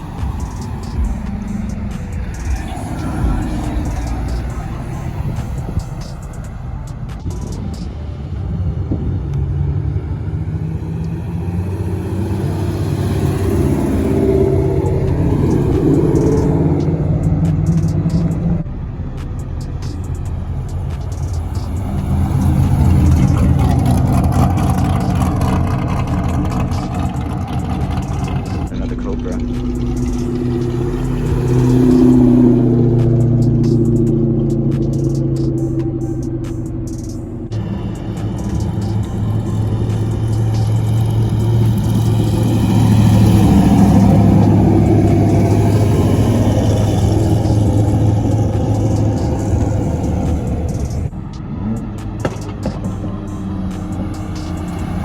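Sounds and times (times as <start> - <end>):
car engine and exhaust rumbling: 0.0 - 55.0
steady low hum: 0.0 - 55.0.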